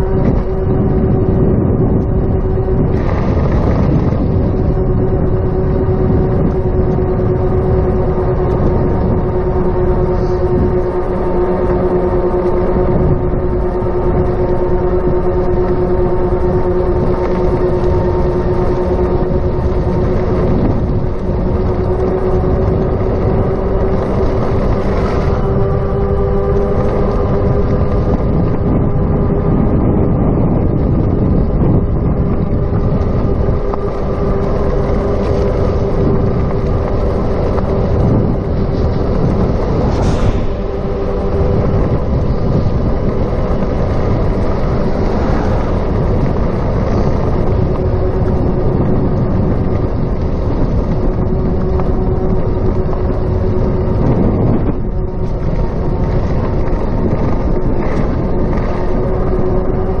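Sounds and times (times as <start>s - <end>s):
steady motor hum: 0.0s - 60.0s
wind rushing over microphone: 0.0s - 60.0s.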